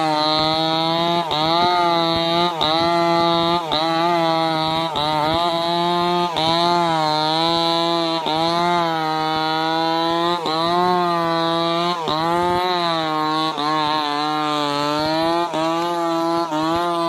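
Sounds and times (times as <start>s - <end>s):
chainsaw ripping a log: 0.0s - 17.0s.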